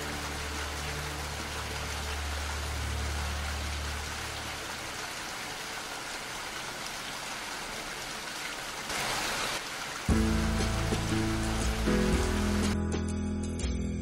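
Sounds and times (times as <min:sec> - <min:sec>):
steady rain: 0:00.0 - 0:12.8.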